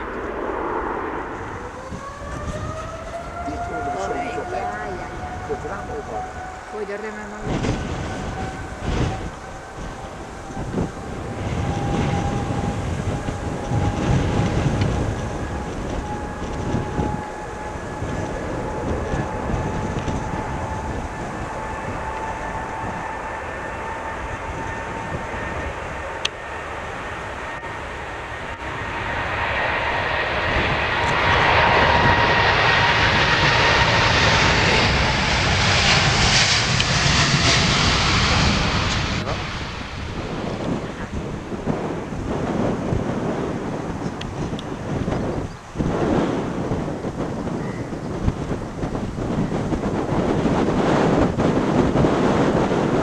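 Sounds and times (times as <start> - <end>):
jet airliner taking off: 0.0 - 53.0
turbofan whine rising in pitch: 0.0 - 53.0.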